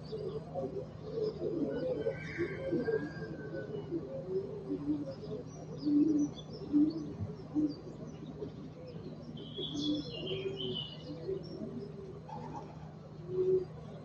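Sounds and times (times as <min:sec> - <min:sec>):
steady low hum: 0:00.0 - 0:02.6, 0:03.2 - 0:14.0
pigeons cooing: 0:00.0 - 0:14.0.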